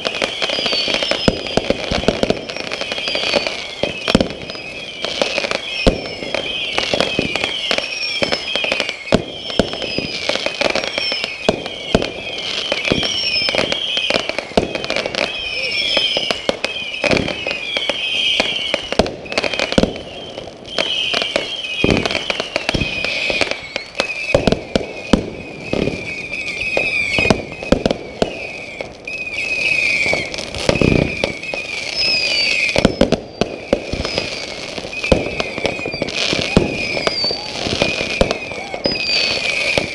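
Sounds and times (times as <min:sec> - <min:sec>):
fireworks bangs and crackles: 0:00.0 - 0:39.9
high wavering whistle: 0:00.0 - 0:39.9.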